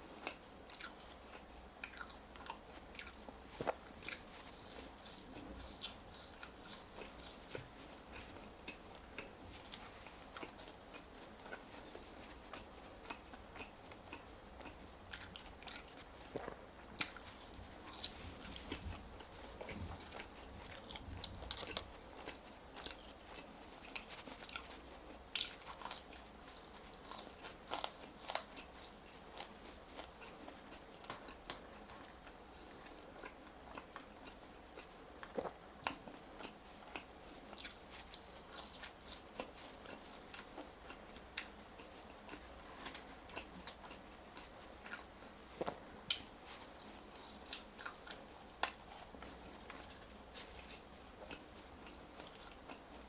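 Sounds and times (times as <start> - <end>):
person chewing crispy fries: 0.1 - 53.0.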